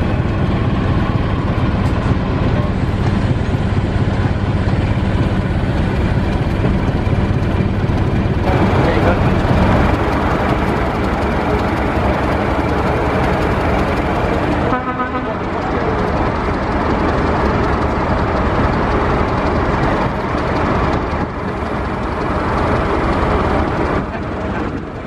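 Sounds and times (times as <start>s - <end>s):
locomotive engine idling: 0.0s - 25.0s.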